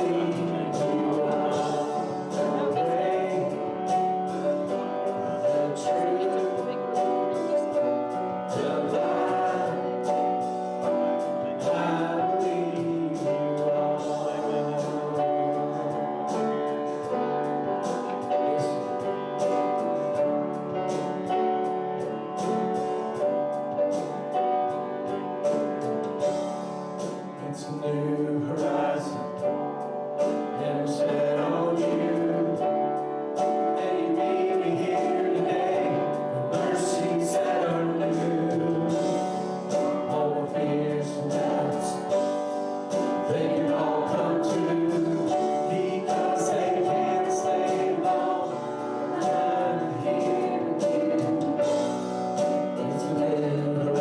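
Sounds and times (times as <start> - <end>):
congregation singing: 0.0 - 54.0
instrumental accompaniment with beat: 0.0 - 54.0.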